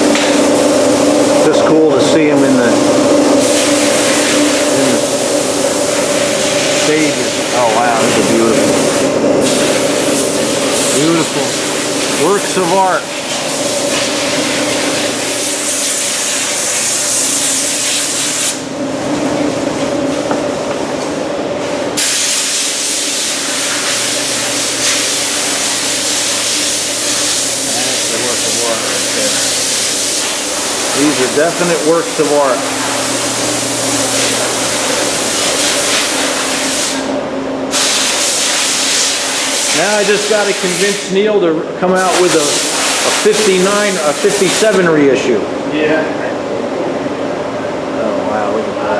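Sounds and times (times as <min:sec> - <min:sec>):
loud steady hissing: 0:00.0 - 0:18.8, 0:21.8 - 0:41.2, 0:42.0 - 0:45.0
machinery hum: 0:00.0 - 0:48.9.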